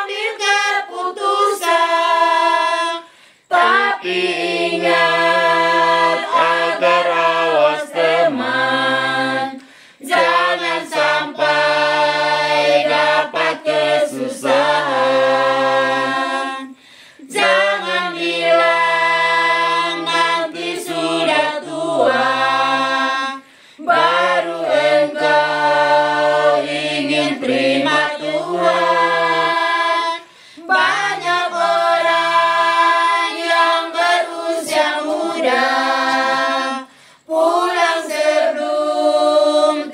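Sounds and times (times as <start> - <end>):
women's choir singing a hymn: 0.0 - 39.9.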